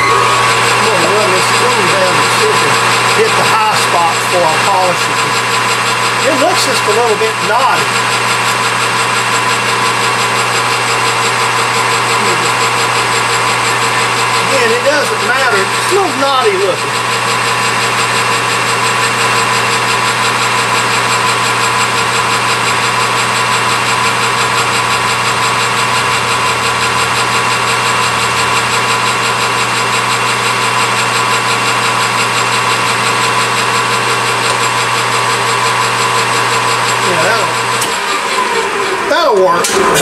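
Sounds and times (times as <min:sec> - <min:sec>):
metal lathe running: 0:00.0 - 0:40.0.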